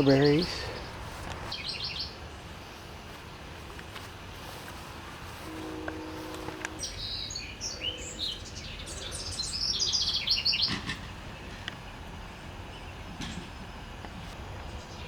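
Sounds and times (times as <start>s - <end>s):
songbird chirps and trills: 0.0s - 15.0s.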